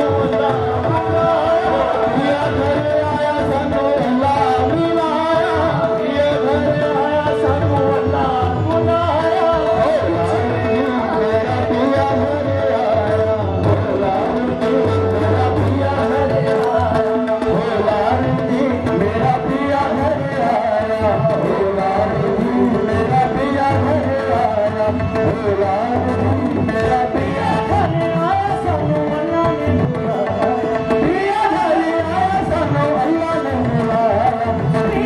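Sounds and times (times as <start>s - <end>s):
harmonium drone: 0.0s - 35.0s
men singing: 0.0s - 35.0s
percussion: 0.0s - 35.0s.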